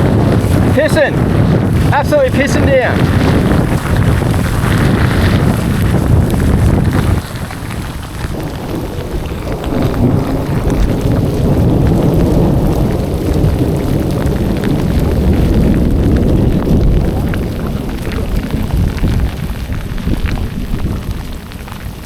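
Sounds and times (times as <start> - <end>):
heavy downpour: 0.0 - 22.0
wind buffeting microphone: 0.0 - 22.0.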